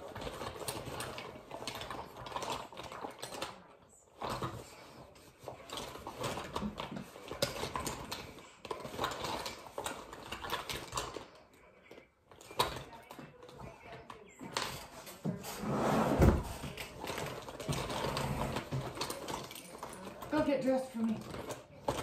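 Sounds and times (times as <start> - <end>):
small objects rustling and clattering: 0.0 - 22.0.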